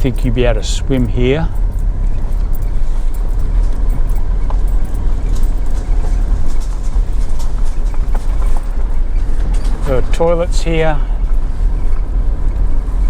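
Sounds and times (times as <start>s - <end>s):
vehicle rumbling on dirt track: 0.0s - 13.0s.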